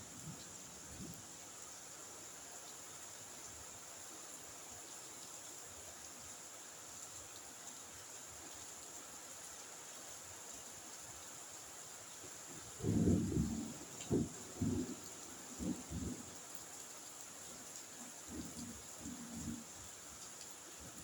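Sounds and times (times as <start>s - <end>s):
faint rain hiss: 0.0s - 21.0s.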